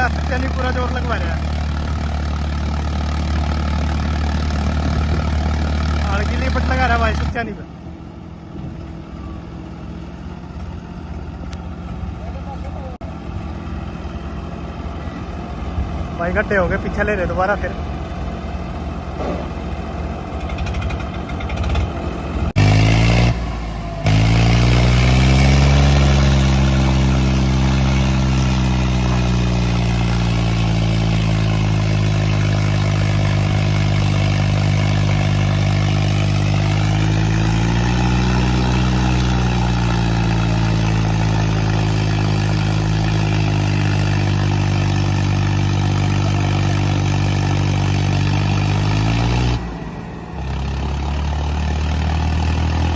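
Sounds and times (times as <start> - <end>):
tractor engines droning under load: 0.0 - 52.9.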